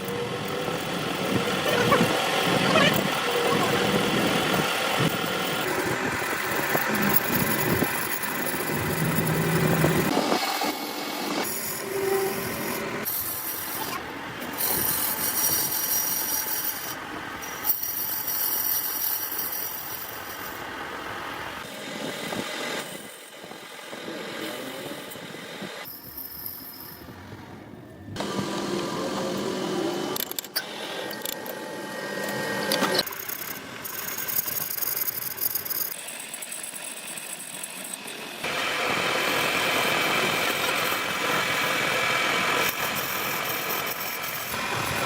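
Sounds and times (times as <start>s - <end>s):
metal lathe cutting: 0.0s - 27.0s, 28.2s - 45.0s.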